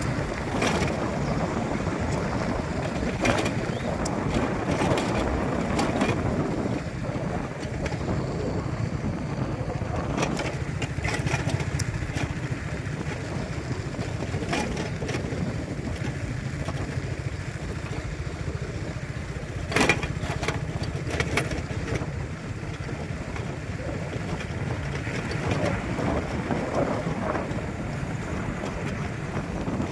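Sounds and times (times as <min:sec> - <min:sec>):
moving vehicle rumble: 0:00.0 - 0:29.9.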